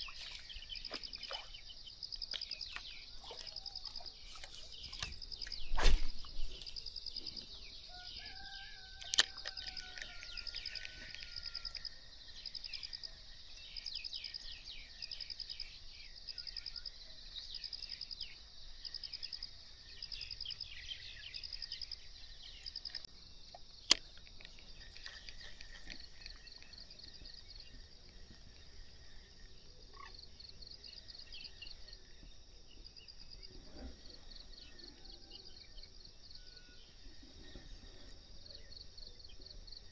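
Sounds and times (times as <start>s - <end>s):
insect chirping in pulsing trills: 0.0s - 39.9s.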